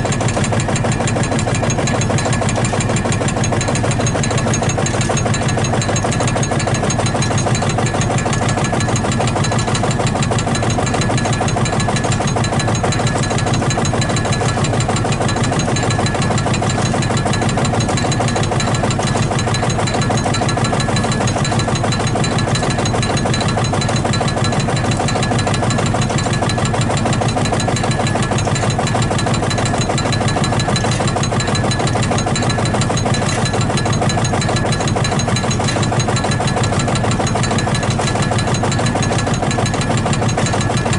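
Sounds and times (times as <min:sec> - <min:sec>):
tractor diesel engine knocking: 0:00.0 - 0:40.9.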